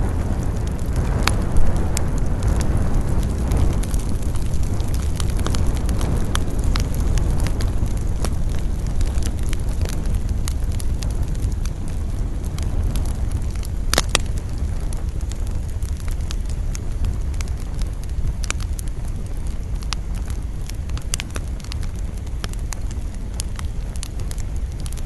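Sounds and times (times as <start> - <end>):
campfire crackling and popping: 0.0 - 25.0
low rumble of wind: 0.0 - 25.0.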